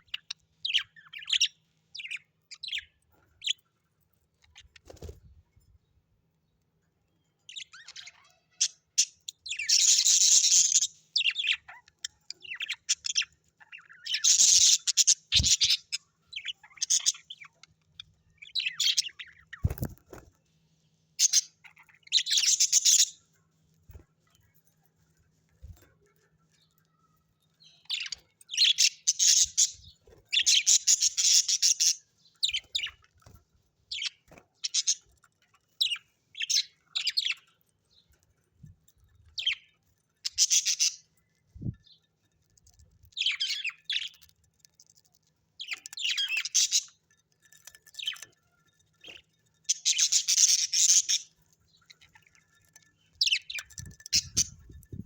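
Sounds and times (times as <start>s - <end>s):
parrots chirping and chattering: 0.0s - 55.0s.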